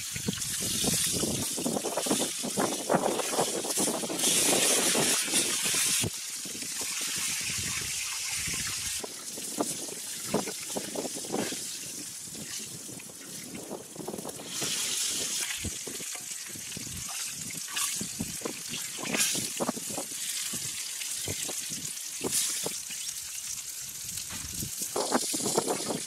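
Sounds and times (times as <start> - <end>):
water gushing: 0.0 - 26.0
water trickling and splashing: 0.0 - 26.0.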